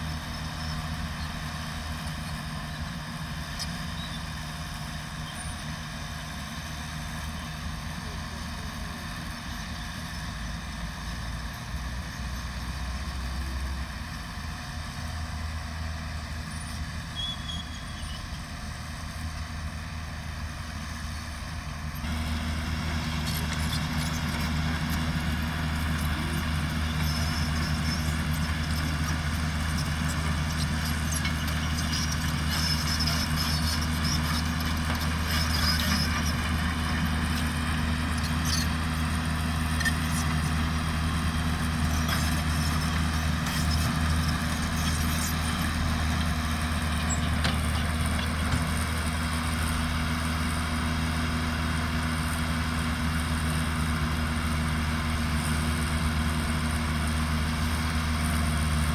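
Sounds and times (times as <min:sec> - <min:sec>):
diesel engine humming: 0:00.0 - 0:58.9.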